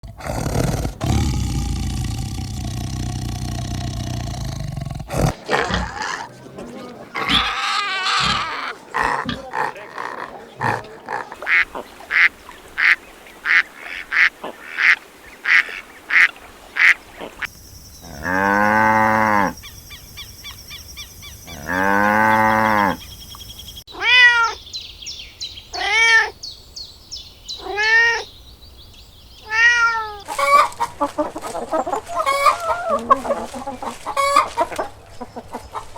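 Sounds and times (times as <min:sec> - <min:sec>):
animal calls: 0:00.0 - 0:23.2, 0:29.4 - 0:35.9.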